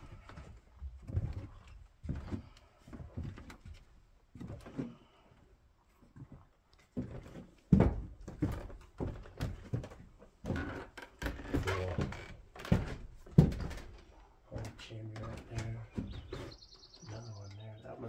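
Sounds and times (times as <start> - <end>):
footsteps on wooden floor: 0.0 - 16.7.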